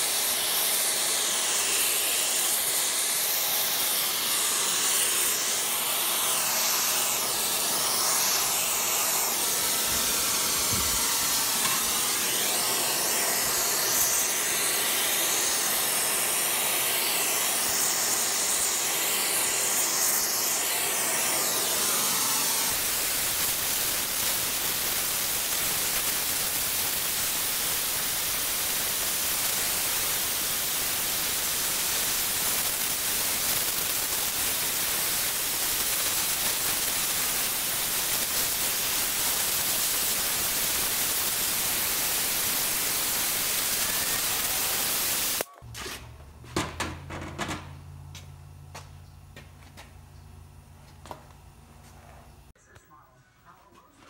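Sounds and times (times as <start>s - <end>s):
gas torch flame hissing: 0.0s - 45.5s.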